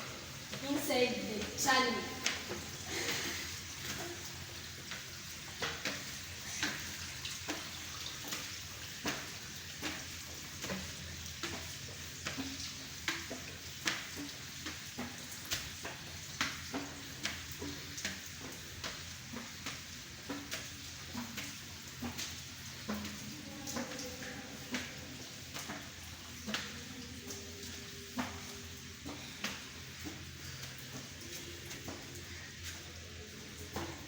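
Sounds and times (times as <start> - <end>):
running water hissing: 0.0 - 34.0
splashing footsteps: 0.4 - 34.0.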